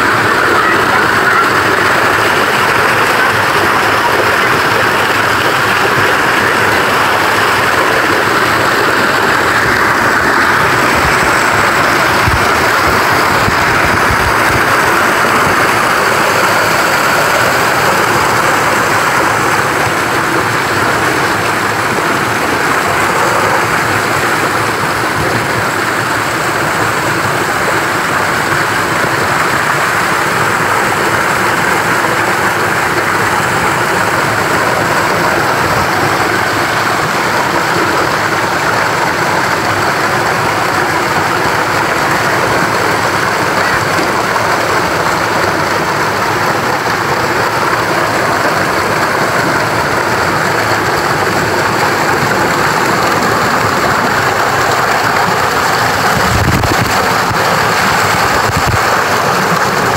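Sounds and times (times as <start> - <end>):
waterfall splashing onto rock: 0.0 - 59.9.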